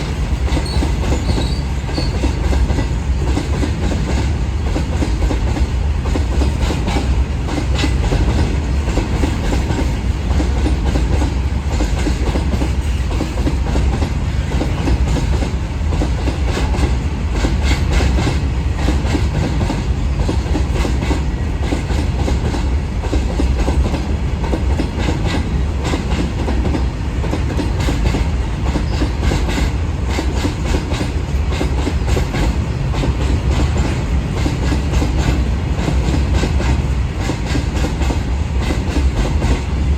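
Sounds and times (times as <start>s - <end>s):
train wagons rumbling: 0.0s - 39.9s.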